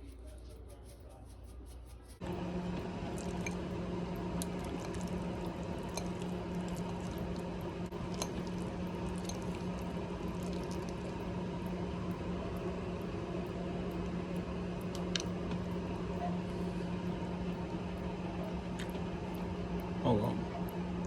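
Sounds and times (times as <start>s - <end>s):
steady hum: 0.0s - 21.0s
wet squishing of pasta mixing: 2.2s - 21.0s.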